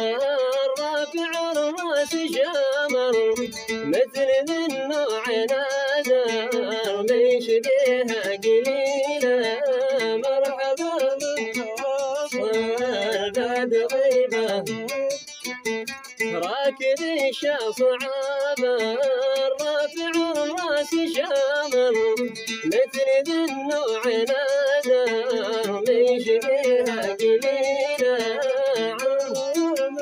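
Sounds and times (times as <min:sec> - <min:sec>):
man singing: 0:00.0 - 0:30.0
plucked string accompaniment: 0:00.0 - 0:30.0.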